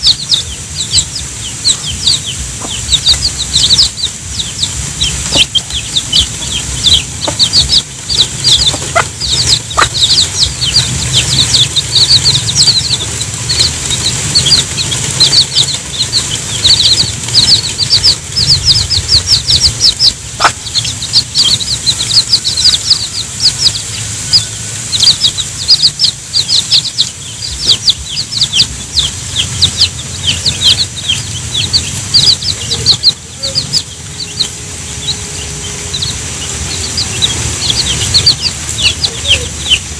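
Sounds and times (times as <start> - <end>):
baby chicks peeping: 0.0 - 39.9
hen clucking low: 0.0 - 39.9.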